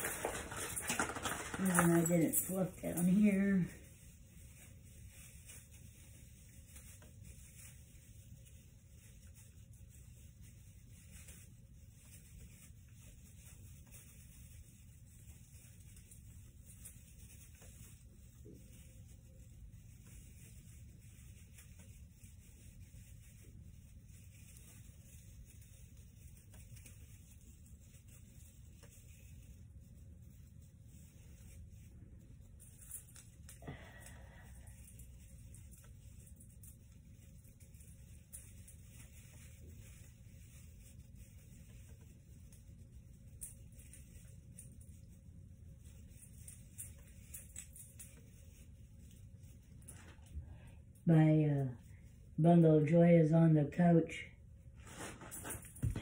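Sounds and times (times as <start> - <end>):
rustling artificial tree branches: 0.0 - 56.0.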